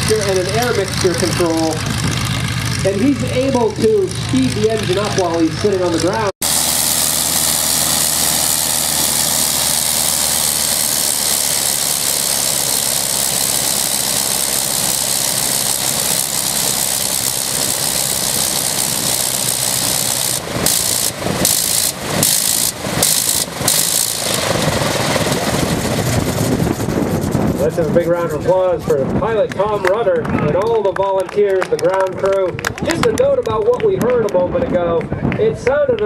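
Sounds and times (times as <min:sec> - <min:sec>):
rotary aircraft engine running: 0:00.0 - 0:35.4.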